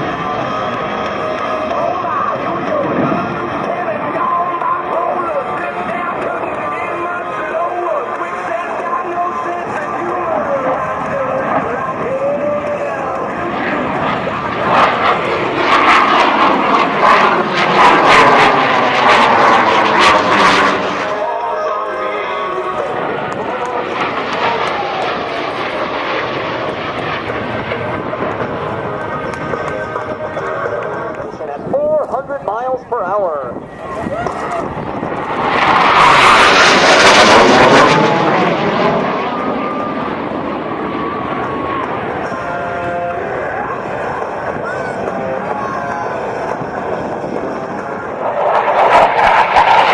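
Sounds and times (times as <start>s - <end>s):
jet passing overhead: 0.0s - 49.9s.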